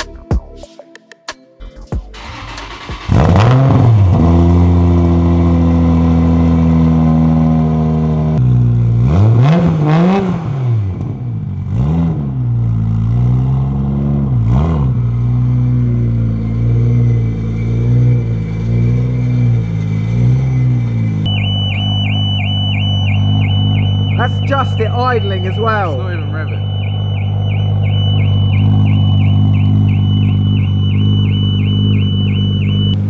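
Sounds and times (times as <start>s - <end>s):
car engine starting and idling: 2.2s - 33.0s
engine revving: 2.2s - 33.0s.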